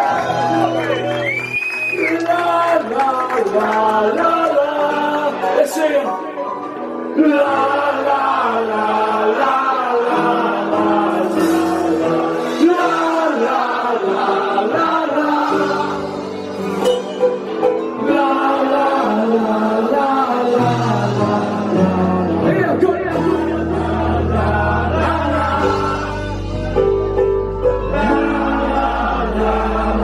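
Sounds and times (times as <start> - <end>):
live band with singing: 0.0 - 30.0.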